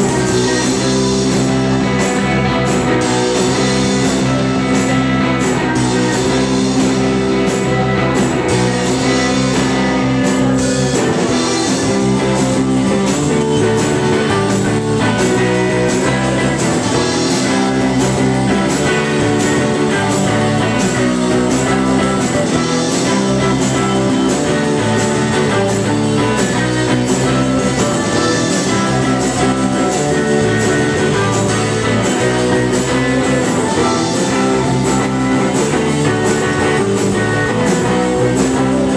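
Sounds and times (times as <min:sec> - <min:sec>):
drum kit beat: 0:00.0 - 0:38.9
electric bass: 0:00.0 - 0:38.9
electric guitar: 0:00.0 - 0:38.9.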